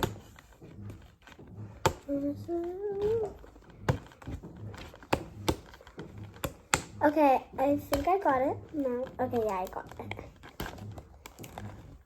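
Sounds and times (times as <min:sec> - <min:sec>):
fingernails picking at tape: 0:00.0 - 0:12.0.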